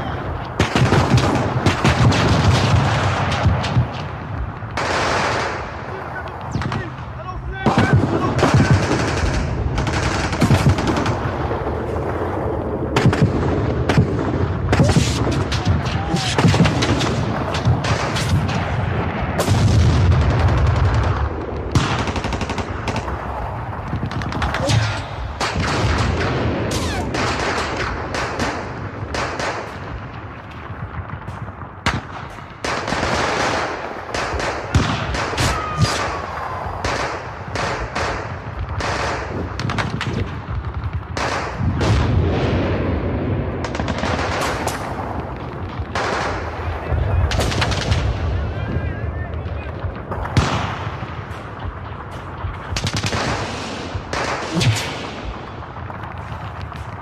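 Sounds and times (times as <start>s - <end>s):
gunfire and machine-gun bursts: 0.6s - 4.2s, 4.8s - 5.8s, 7.6s - 12.3s, 12.9s - 30.2s, 30.9s - 42.8s, 43.6s - 48.3s, 49.6s - 57.0s.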